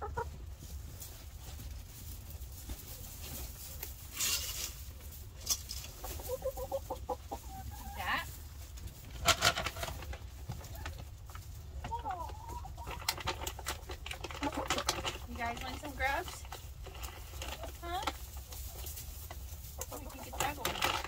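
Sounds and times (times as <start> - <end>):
hens clucking: 0.0 - 4.1, 4.7 - 21.0.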